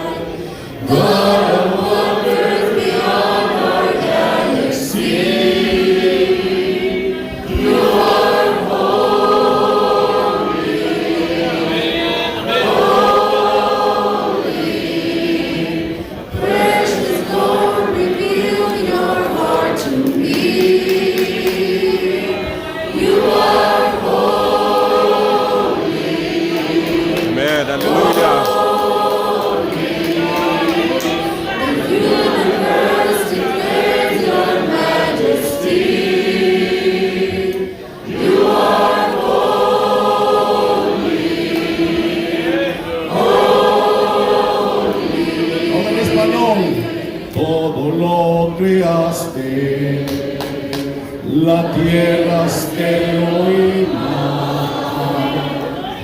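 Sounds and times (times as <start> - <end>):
congregation singing worship song: 0.0 - 56.0.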